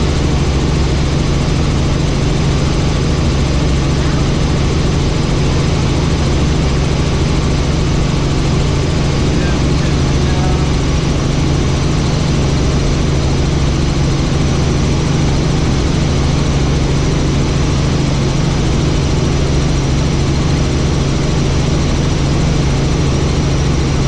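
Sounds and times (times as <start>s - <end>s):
helicopter engine and rotor drone: 0.0s - 24.0s.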